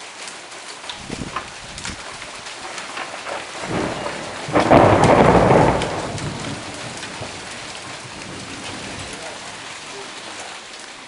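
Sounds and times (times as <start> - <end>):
rain hiss: 0.0 - 11.0
raindrop ticks: 0.0 - 11.0
thunder crack and rumble: 1.0 - 10.5.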